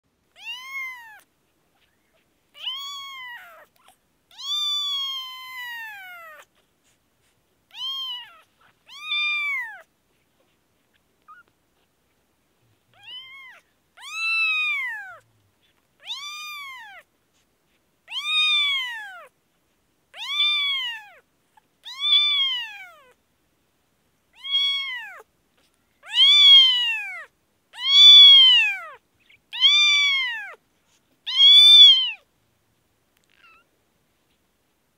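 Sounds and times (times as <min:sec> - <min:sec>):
newborn kittens mewing: 0:00.3 - 0:19.4, 0:20.1 - 0:23.2, 0:24.3 - 0:32.3, 0:33.2 - 0:34.4.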